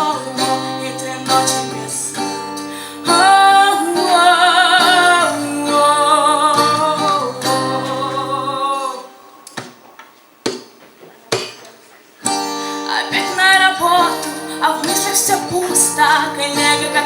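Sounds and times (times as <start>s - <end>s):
woman singing with vibrato: 0.0s - 9.5s, 12.7s - 17.0s
acoustic guitar: 0.0s - 17.0s.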